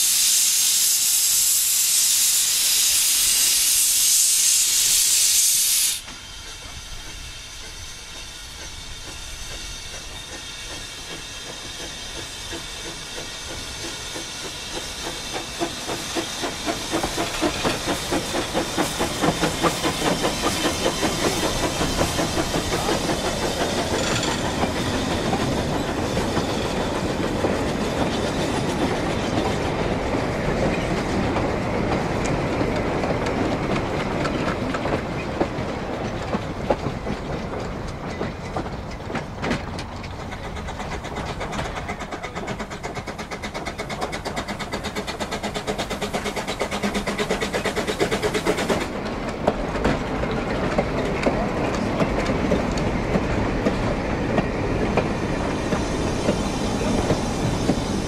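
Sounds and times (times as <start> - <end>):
steam locomotive chuffing: 0.0 - 58.0
wheels clicking over rail joints: 8.6 - 58.0.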